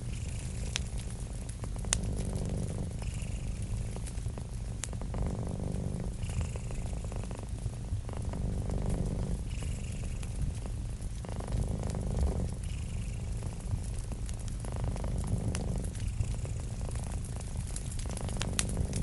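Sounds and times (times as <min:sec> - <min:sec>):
cat purring: 0:00.0 - 0:19.0
wood fire crackling: 0:00.0 - 0:19.0.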